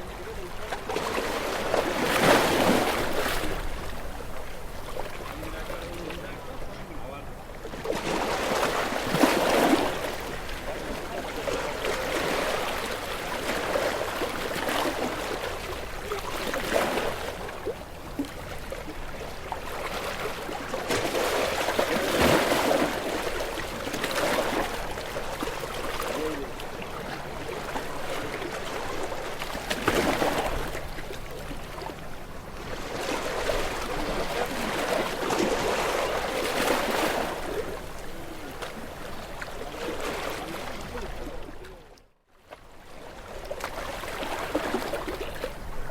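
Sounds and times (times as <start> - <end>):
small waves washing onto shore: 0.0 - 45.9.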